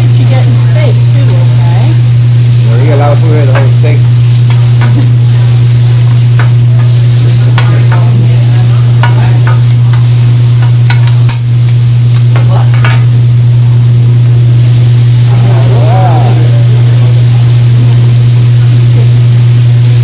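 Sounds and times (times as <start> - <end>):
food sizzling on a grill: 0.0 - 20.0
loud steady low hum: 0.0 - 20.0.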